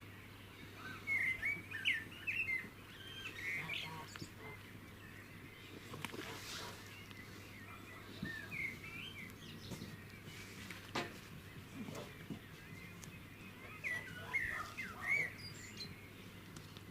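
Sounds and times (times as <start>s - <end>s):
small birds chirping and trilling: 0.0s - 16.9s.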